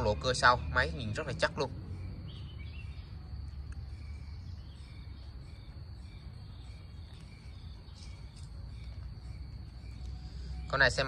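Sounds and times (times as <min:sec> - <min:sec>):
insects chirping: 0:00.0 - 0:11.0
low steady rumble: 0:01.0 - 0:11.0.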